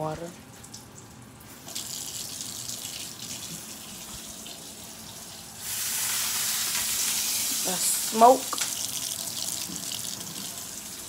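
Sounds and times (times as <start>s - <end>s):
water running from a tap: 0.5s - 11.0s.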